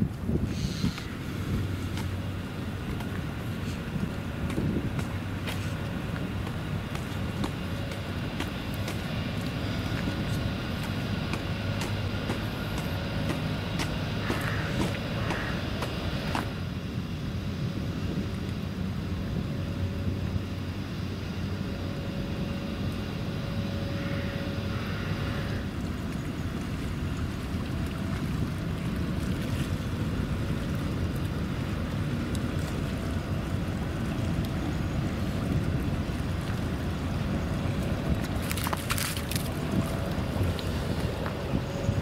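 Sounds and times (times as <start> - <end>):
faint steady hum: 0.0 - 42.0
strong wind buffeting microphone: 0.0 - 42.0.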